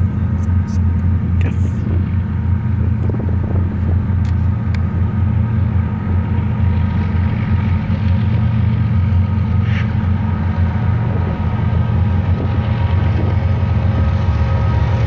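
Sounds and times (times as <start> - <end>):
locomotive engine rumble: 0.0 - 15.0.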